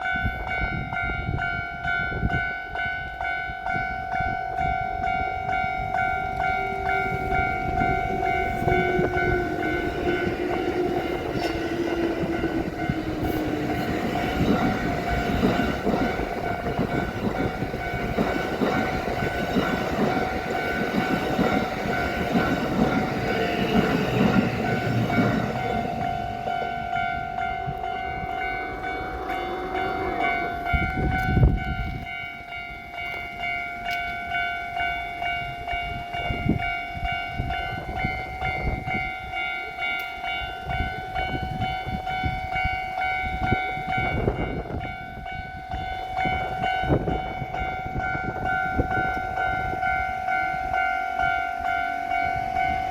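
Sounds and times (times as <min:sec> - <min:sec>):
passing train rumble: 0:00.0 - 0:52.9
electronic warning bell ringing: 0:00.1 - 0:52.9.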